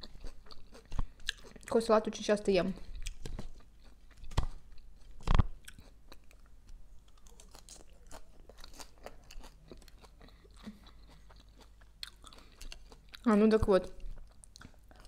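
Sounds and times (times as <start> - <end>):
chewing salad with soft crunches: 0.0 - 15.0.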